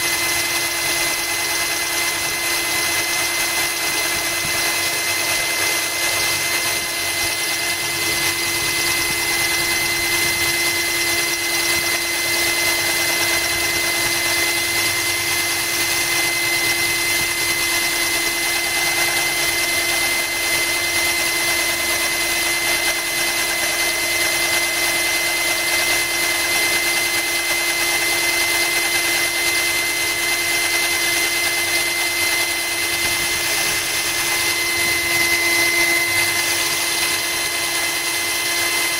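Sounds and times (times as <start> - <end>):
drill grinding into glass: 0.0 - 38.9.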